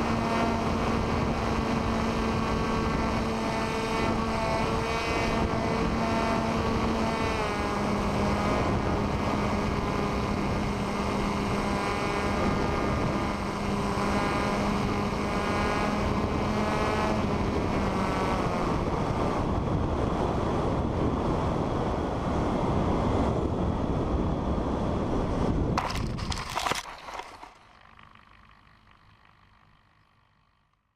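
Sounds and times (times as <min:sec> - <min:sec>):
model plane motor hum: 0:00.0 - 0:21.4, 0:25.5 - 0:30.9
wind noise: 0:00.0 - 0:28.6.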